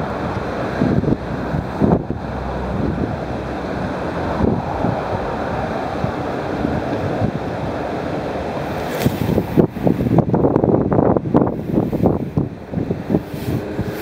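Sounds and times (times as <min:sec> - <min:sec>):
wind blowing across microphone: 0:00.0 - 0:14.0.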